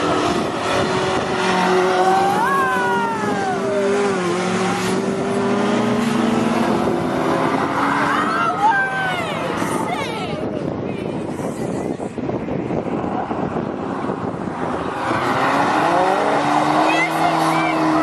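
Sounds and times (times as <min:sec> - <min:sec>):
rally car engines racing: 0:00.0 - 0:18.0.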